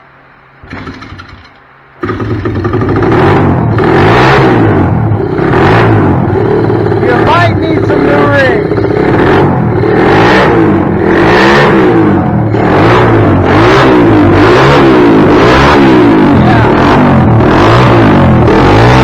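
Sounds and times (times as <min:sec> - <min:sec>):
motorbike engine revving: 0:00.6 - 0:19.0.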